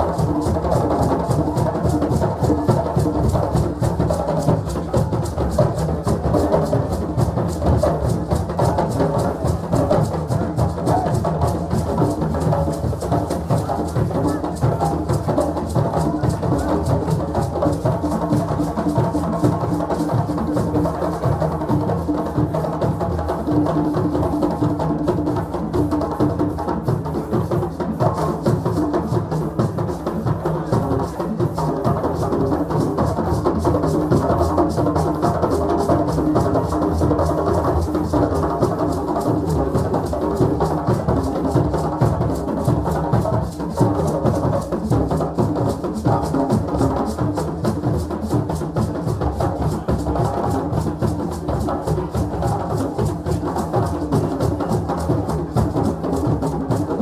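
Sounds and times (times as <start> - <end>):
drums in fast rhythm: 0.0 - 57.0.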